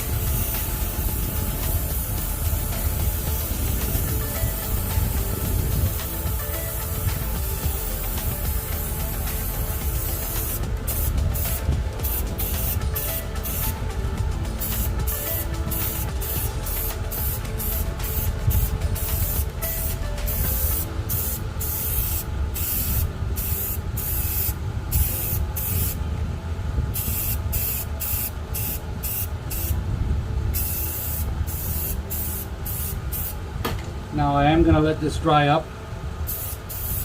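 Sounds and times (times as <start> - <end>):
aerosol paint spraying: 0.0 - 26.0, 27.0 - 29.8, 30.6 - 33.4, 36.3 - 37.0.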